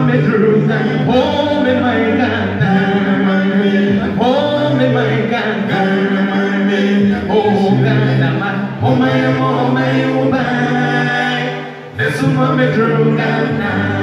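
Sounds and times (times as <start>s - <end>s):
male group singing in harmony: 0.0s - 14.0s.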